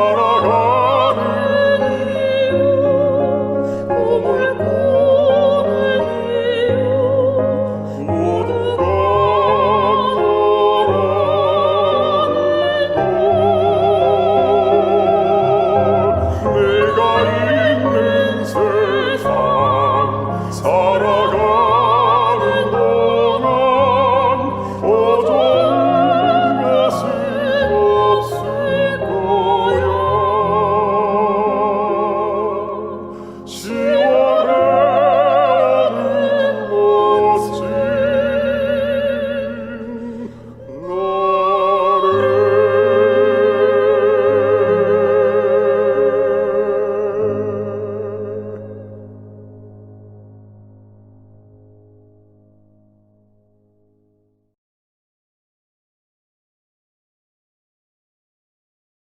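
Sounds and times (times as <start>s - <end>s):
slow operatic classical melody: 0.0s - 54.6s.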